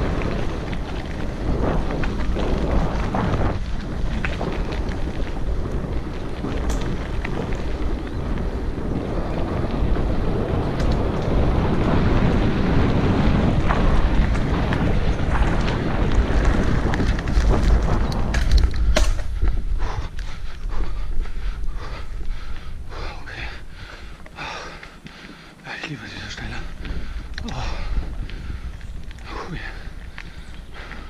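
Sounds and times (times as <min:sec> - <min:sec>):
bike clicks and rattles: 0:00.0 - 0:31.0
bike tyres crunching gravel: 0:00.0 - 0:31.0
wind buffeting microphone: 0:00.0 - 0:31.0.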